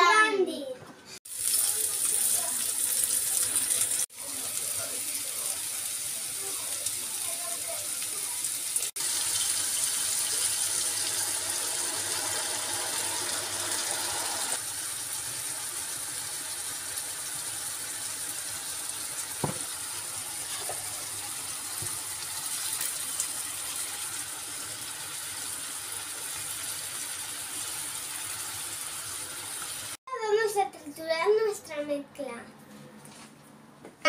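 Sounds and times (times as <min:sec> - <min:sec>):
vegetables sizzling in a frying pan: 0:01.3 - 0:30.0.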